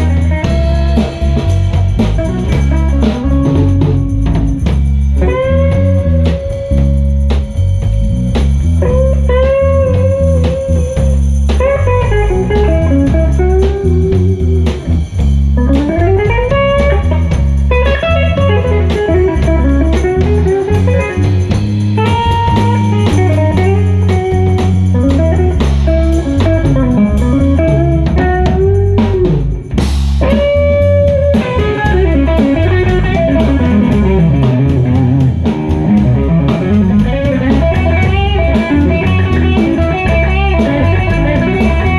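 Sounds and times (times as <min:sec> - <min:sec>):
blues band playing live: 0:00.0 - 0:41.9
electric guitar bending notes: 0:00.0 - 0:41.9.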